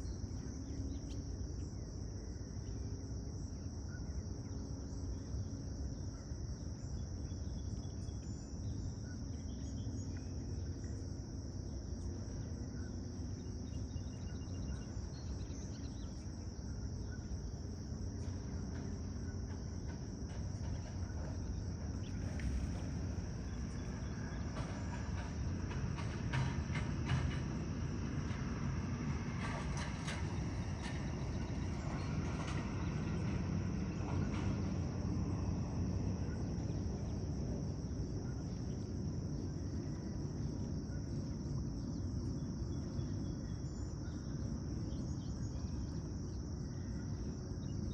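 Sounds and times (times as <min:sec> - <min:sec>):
insects droning: 0:00.0 - 0:47.9
low background rumble: 0:00.0 - 0:47.9.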